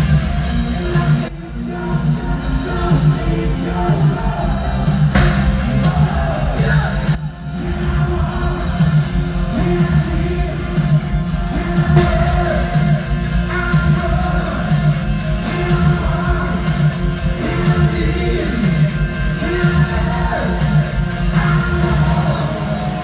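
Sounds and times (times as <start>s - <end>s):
live rock band playing: 0.0s - 23.0s
person singing lead vocal: 0.6s - 23.0s.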